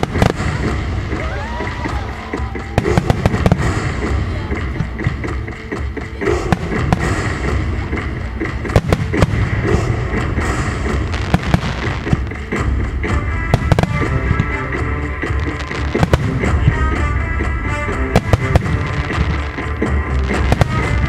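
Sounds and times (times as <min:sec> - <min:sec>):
fireworks bangs: 0:00.0 - 0:21.0
low rumble: 0:00.0 - 0:21.0
music playing: 0:00.0 - 0:21.0.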